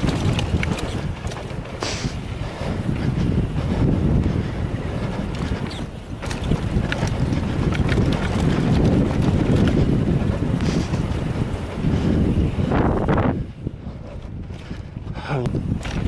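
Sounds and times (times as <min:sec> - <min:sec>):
bike clattering over rough trail: 0:00.0 - 0:16.0
wind buffeting microphone: 0:00.0 - 0:16.0.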